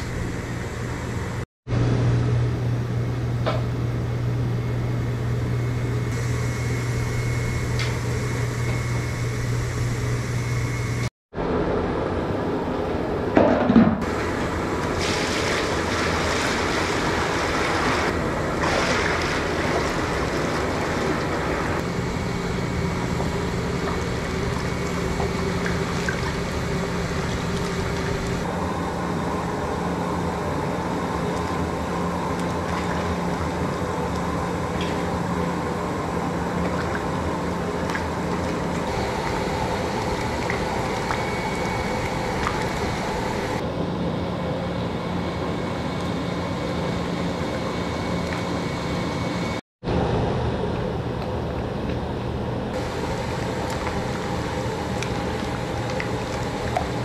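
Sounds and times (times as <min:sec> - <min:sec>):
low hum: 0:00.0 - 0:13.4, 0:14.0 - 0:57.0
gas burner roaring: 0:00.0 - 0:57.0.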